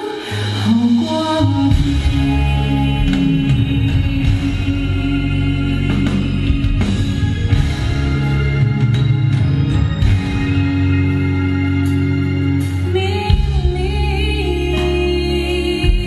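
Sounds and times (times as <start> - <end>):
guitar: 0.0 - 16.0
live band playing: 0.0 - 16.0
held bass notes: 0.6 - 16.0.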